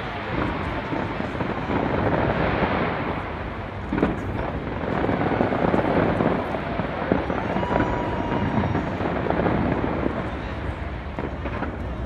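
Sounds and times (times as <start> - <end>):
distant fireworks rumble: 0.0 - 12.0
sharp firework bang: 0.0 - 12.0.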